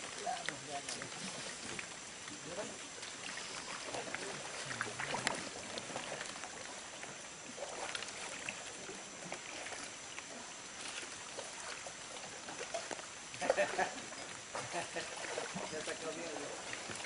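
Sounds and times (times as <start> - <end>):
paddle splashing in water: 0.0 - 17.0
steady water noise: 0.0 - 17.0.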